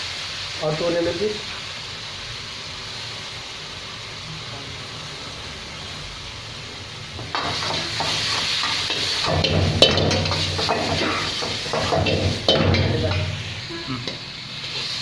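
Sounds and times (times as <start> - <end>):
chicken sizzling in a pan: 0.0 - 15.0
steady hiss: 0.0 - 15.0.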